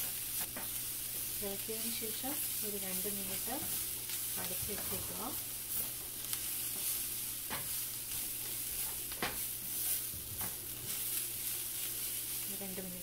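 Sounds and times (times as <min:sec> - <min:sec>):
stir-fry sizzling in a pan: 0:00.0 - 0:13.0
wooden spatula scraping a pan: 0:00.4 - 0:13.0.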